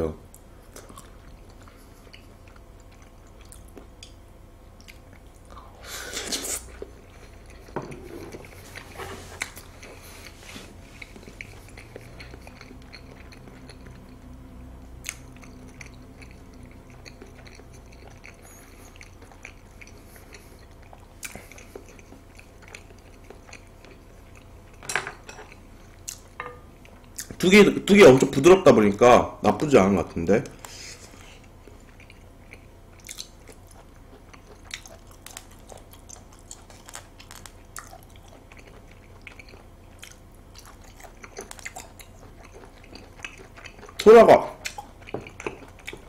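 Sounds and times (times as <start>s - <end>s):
soft wet chewing: 0.3s - 27.5s, 30.3s - 46.0s.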